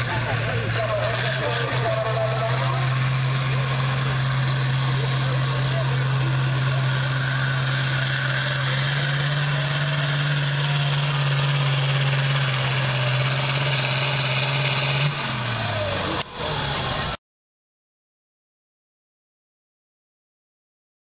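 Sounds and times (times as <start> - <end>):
tractor diesel engine at high revs: 0.0 - 17.2.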